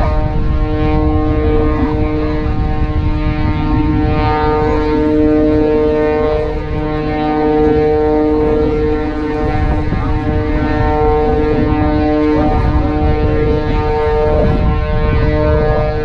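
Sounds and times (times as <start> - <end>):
engine droning: 0.0 - 16.0
wind rumble on microphone: 0.0 - 16.0.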